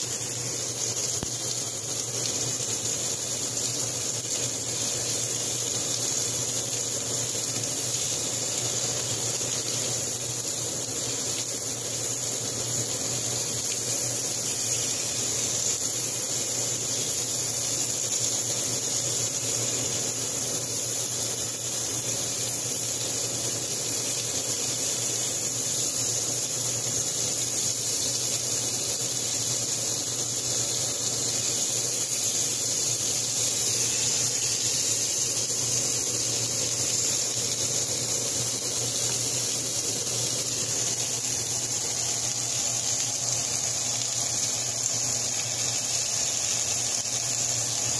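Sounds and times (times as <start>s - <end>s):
meat sizzling in a skillet: 0.0s - 47.9s.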